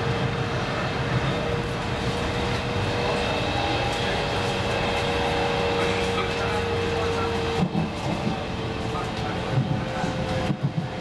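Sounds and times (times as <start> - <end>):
steady train whine: 0.0 - 11.0
train wheels rumbling on rail: 0.0 - 11.0.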